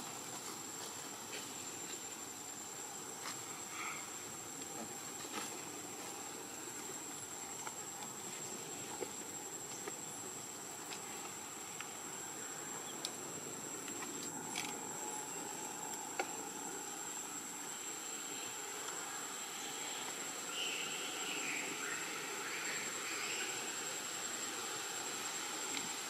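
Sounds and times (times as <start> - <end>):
insects droning: 0.0 - 26.0
soft outdoor hiss: 0.0 - 26.0.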